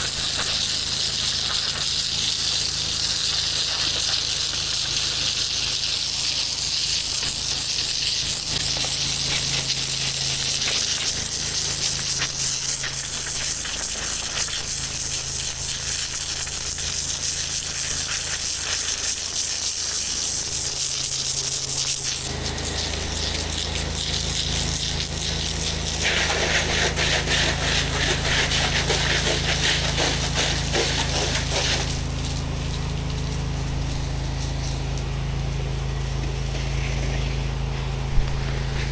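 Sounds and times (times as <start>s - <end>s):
high-pressure water spray hiss: 0.0s - 38.9s
pressure washer engine running: 0.0s - 38.9s.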